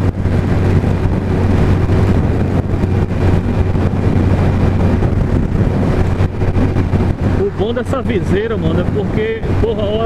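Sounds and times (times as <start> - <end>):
motorcycle engine cruising: 0.0 - 10.0
wind buffeting microphone: 0.0 - 10.0.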